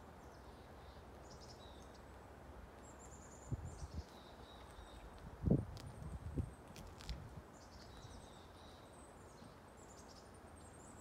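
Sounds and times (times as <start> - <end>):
small birds chirping: 0.0 - 2.2, 2.8 - 11.0
faint outdoor hiss: 0.0 - 11.0.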